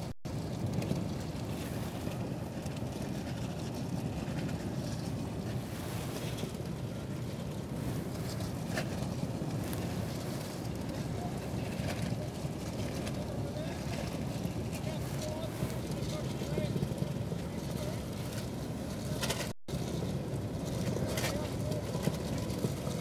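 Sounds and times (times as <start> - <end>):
vehicle engine rumble: 0.0 - 23.0
wind on microphone: 0.0 - 23.0.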